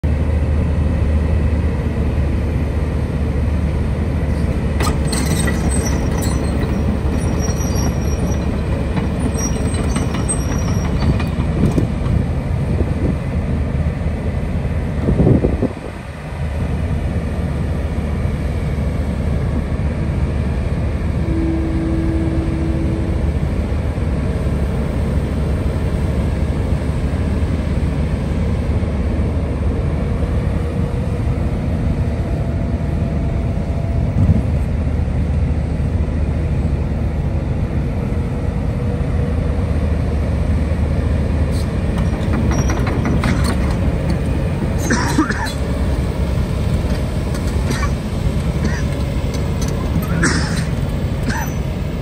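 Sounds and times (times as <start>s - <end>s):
excavator diesel engine drone: 0.0s - 52.0s.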